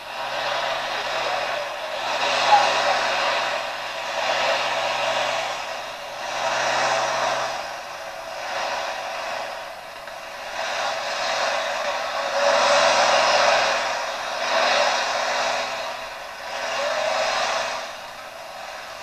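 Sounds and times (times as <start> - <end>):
recording hiss: 0.0 - 19.0
tractor engine running hard: 0.0 - 19.0.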